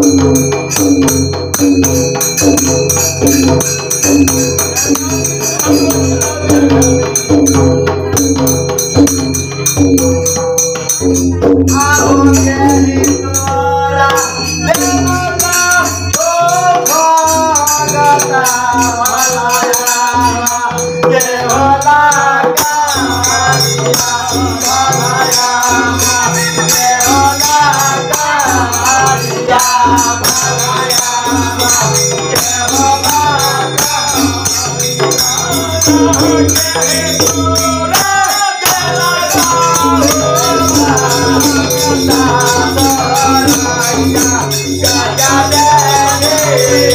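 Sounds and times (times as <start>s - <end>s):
hand cymbals clashing: 0.0s - 46.9s
hand drum beat: 0.0s - 46.9s
man singing devotional song: 0.0s - 46.9s.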